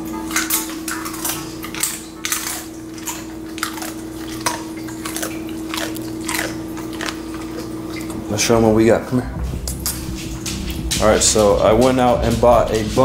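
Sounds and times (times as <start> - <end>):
dog chewing with crunches: 0.0 - 13.0.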